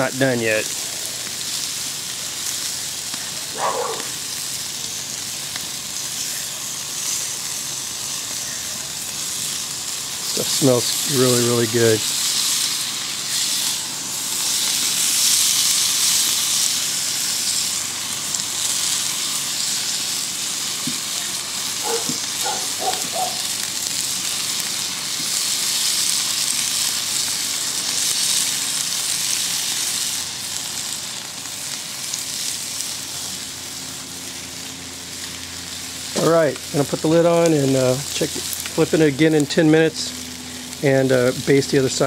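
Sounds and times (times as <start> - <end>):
meat sizzling on a grill: 0.0 - 42.0.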